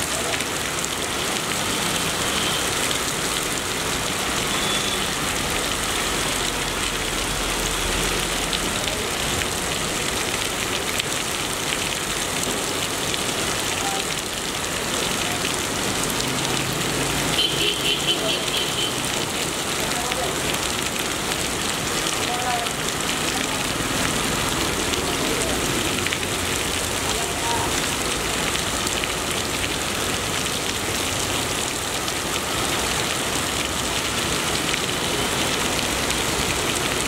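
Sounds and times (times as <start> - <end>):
heavy rain on flooded street: 0.0 - 37.0
vehicles driving through water: 0.0 - 37.0.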